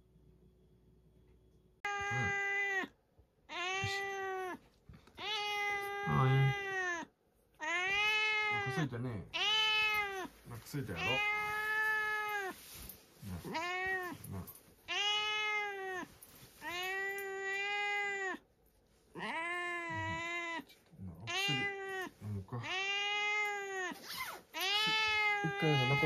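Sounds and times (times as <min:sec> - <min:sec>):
cat meowing: 0:01.9 - 0:12.6, 0:13.3 - 0:18.4, 0:19.2 - 0:26.0.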